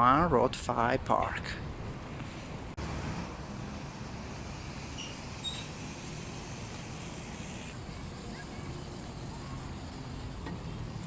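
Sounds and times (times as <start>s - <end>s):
distant city traffic rumble: 0.3s - 11.0s.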